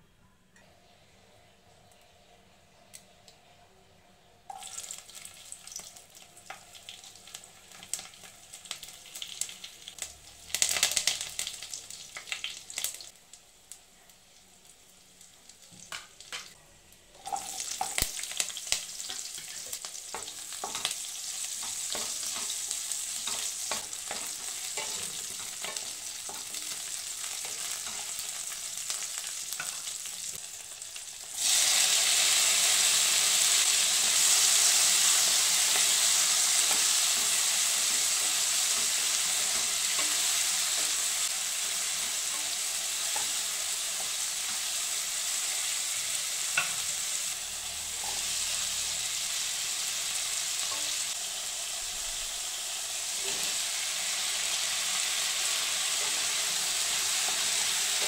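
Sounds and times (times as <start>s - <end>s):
food frying in hot oil: 4.5s - 16.6s, 17.2s - 58.0s.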